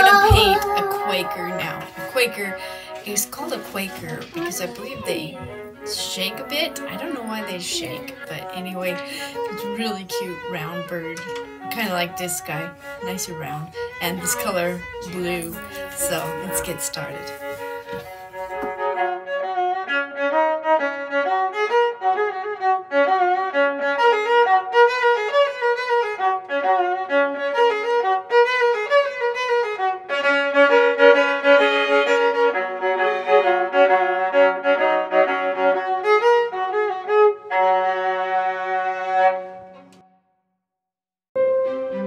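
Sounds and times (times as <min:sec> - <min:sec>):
instrumental music with violin melody: 0:00.0 - 0:40.2, 0:41.4 - 0:42.0.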